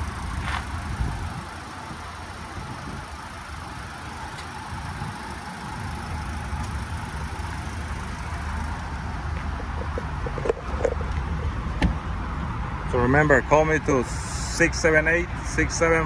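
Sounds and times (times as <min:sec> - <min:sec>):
car rumble with hiss: 0:00.0 - 0:16.0.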